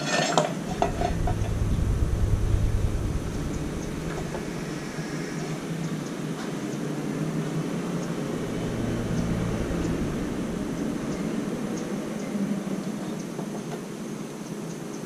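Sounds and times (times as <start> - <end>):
machine hum: 0.6 - 6.1, 7.0 - 13.7.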